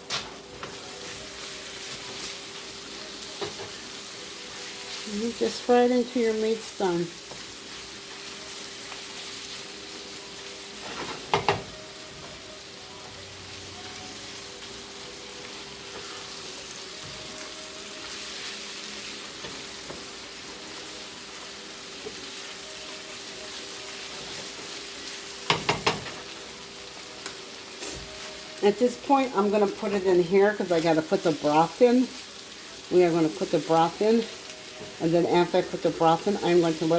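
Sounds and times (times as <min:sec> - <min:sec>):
food sizzling in a pan: 0:00.0 - 0:36.9.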